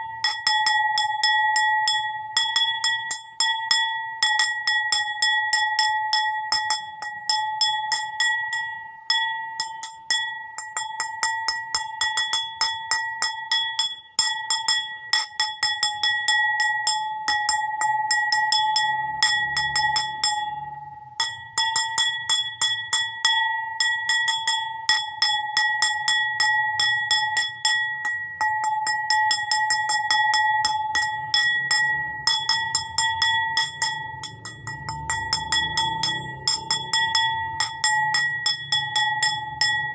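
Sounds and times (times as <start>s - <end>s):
bowl tapped ringing: 0.0s - 39.9s.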